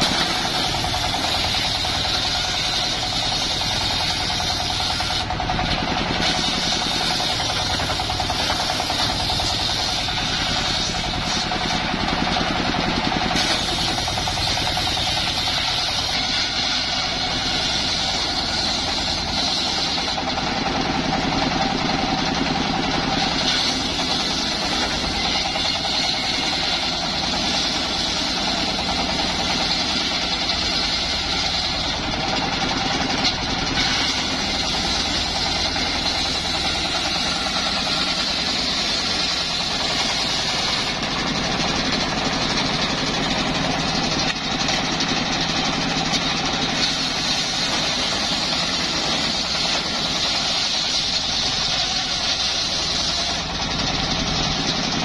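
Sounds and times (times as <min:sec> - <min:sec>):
circular saw blade whining: 0:00.0 - 0:55.0
engine running under load: 0:00.0 - 0:55.0.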